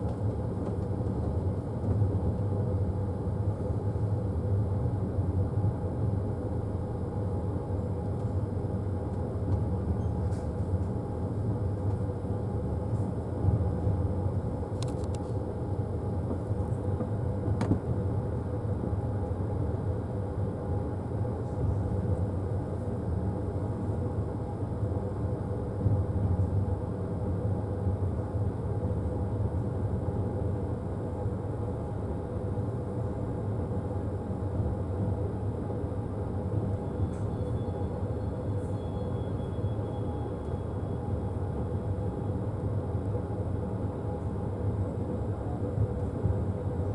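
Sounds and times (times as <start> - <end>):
railway coach rumbling on track: 0.0 - 46.9.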